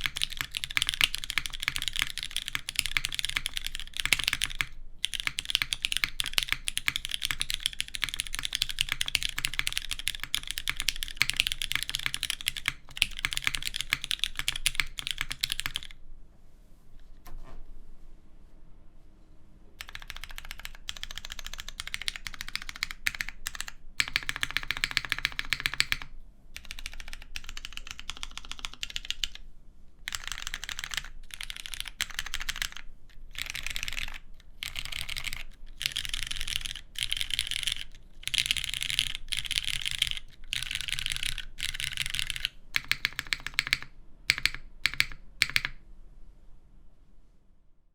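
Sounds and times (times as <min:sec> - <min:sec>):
typing on mechanical keyboard: 0:00.0 - 0:16.0, 0:19.8 - 0:29.4, 0:30.1 - 0:45.8.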